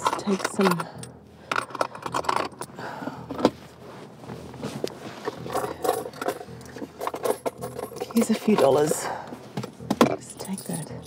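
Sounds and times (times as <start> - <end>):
rustling and scraping: 0.0 - 10.2.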